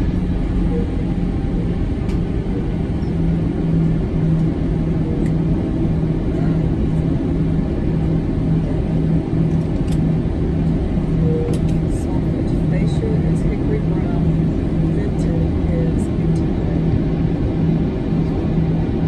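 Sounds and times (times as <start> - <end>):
jet engines rumbling: 0.0 - 19.0
low hum: 0.0 - 19.0.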